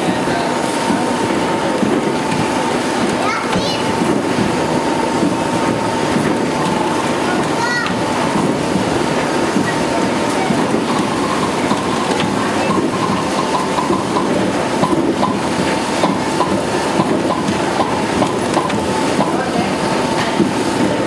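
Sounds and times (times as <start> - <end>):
machine clattering: 0.0 - 21.0.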